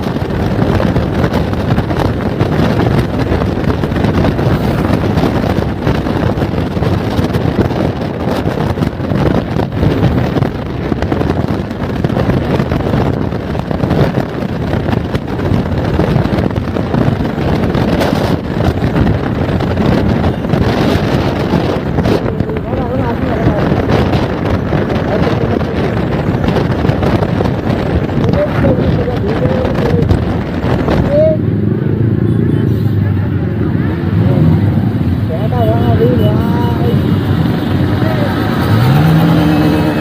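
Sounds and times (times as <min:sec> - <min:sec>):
road noise: 0:00.0 - 0:40.0
wind buffeting microphone: 0:00.0 - 0:40.0.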